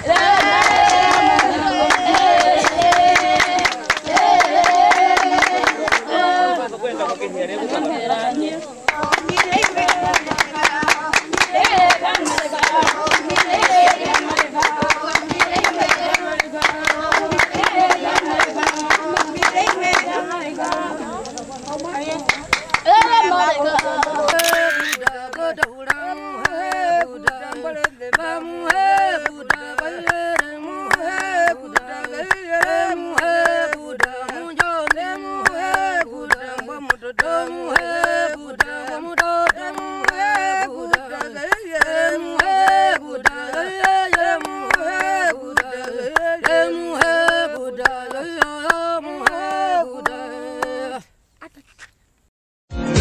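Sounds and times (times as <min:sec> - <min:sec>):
sharp steady clapping: 0:00.0 - 0:06.1, 0:08.9 - 0:50.8
voices singing: 0:00.0 - 0:51.7.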